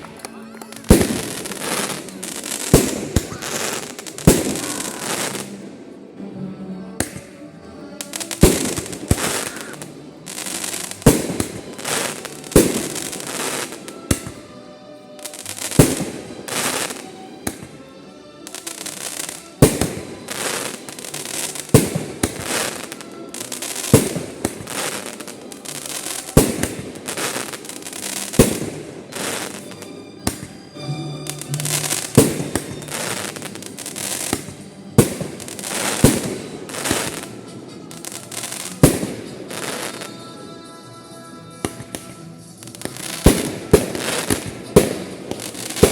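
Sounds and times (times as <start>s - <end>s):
fireworks bursting with bangs: 0.0s - 6.2s, 7.0s - 14.5s, 15.1s - 40.3s, 41.6s - 45.9s
fireworks crackling: 0.0s - 6.2s, 7.0s - 40.3s, 41.6s - 45.9s.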